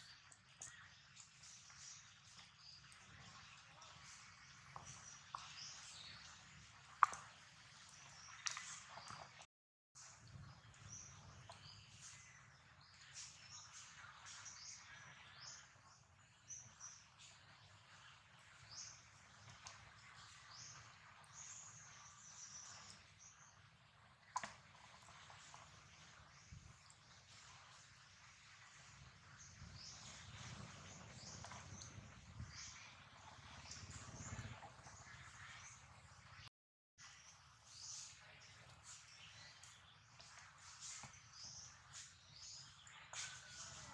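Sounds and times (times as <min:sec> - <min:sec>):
small birds chirping: 0:00.0 - 0:09.4, 0:10.3 - 0:43.9.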